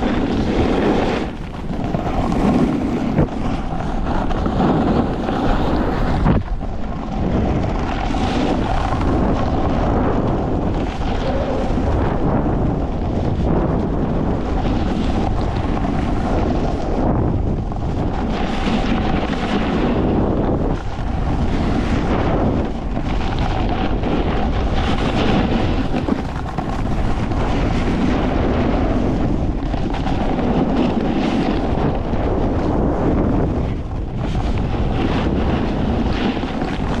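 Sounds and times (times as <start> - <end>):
snowboard scraping over snow: 0.0 - 37.0
wind buffeting microphone: 0.0 - 37.0.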